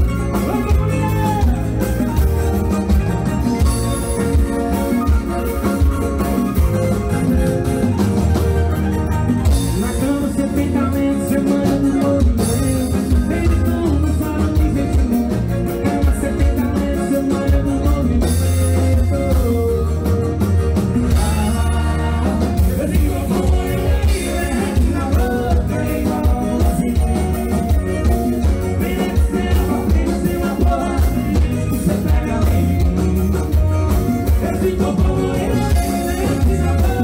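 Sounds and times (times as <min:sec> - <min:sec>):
man singing: 0:00.0 - 0:02.2, 0:09.5 - 0:37.0
live band playing upbeat music: 0:00.0 - 0:37.0.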